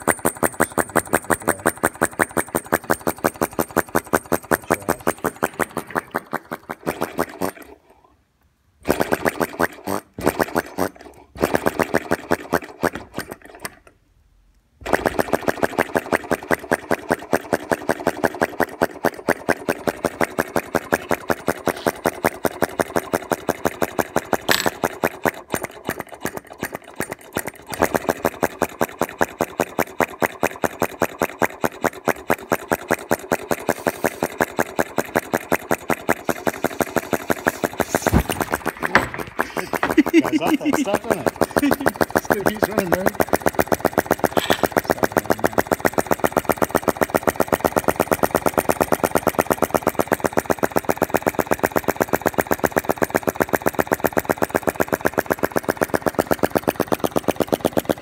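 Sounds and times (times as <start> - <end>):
model engine ticking: 0.0 - 7.8, 8.8 - 13.9, 14.8 - 58.0.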